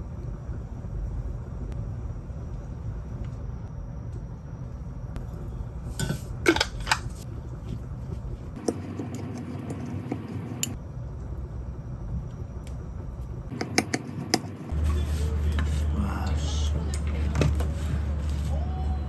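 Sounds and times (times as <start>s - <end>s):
louder low hum: 0.0s - 19.0s
low steady hum: 0.0s - 19.0s.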